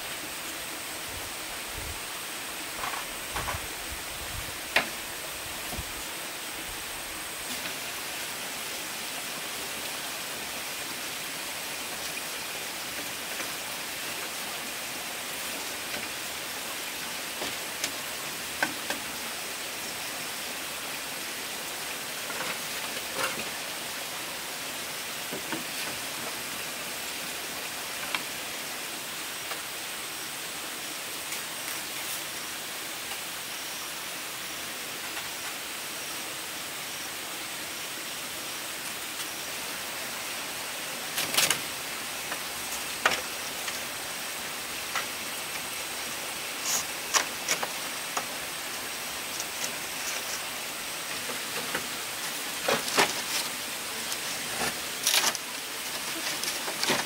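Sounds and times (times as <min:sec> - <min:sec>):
forest ambience hiss: 0:00.0 - 0:57.0.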